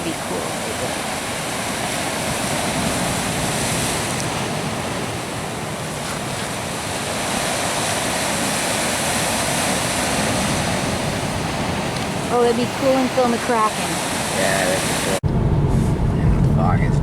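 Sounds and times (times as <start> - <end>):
ocean surf washing in: 0.0 - 16.1.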